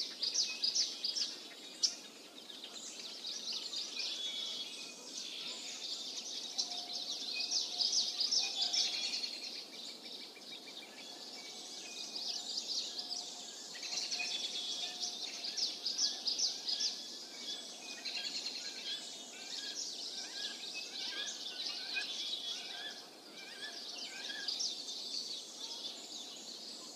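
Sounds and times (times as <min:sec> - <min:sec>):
faint background hiss: 0:00.0 - 0:26.9
small birds chirping: 0:00.0 - 0:26.9.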